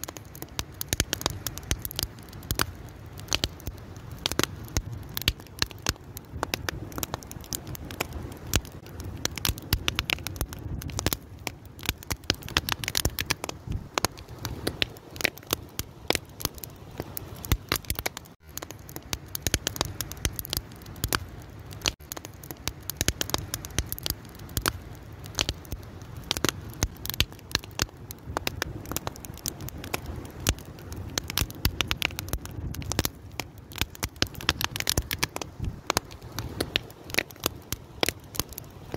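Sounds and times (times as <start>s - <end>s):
low rushing of flames: 0.0s - 38.9s
wood fire crackling and popping: 0.0s - 38.9s.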